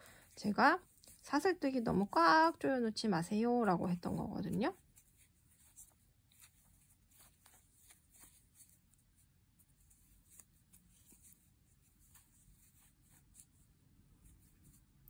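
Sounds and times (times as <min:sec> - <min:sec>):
yarn rustling with crochet hook: 0:00.0 - 0:15.0.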